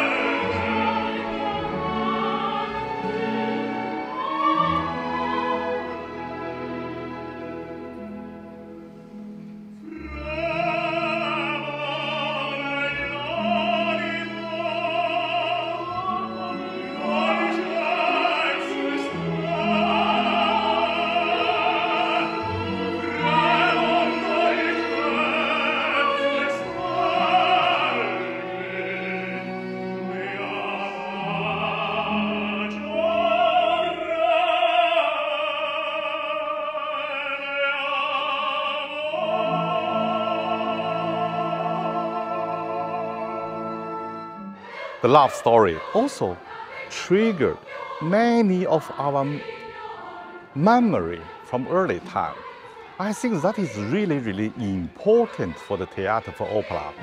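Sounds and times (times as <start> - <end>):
orchestral accompaniment: 0.0 - 57.0
tenor and soprano singing duet: 0.0 - 57.0.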